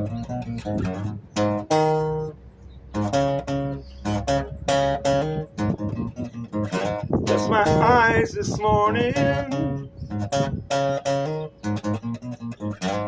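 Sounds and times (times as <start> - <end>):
acoustic guitar reggae strumming: 0.0 - 13.0.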